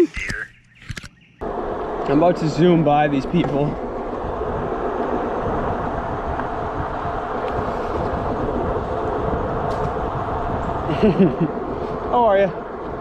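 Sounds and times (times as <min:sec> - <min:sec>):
wind buffeting on microphone: 0:01.4 - 0:13.0
tyre noise: 0:01.5 - 0:13.0.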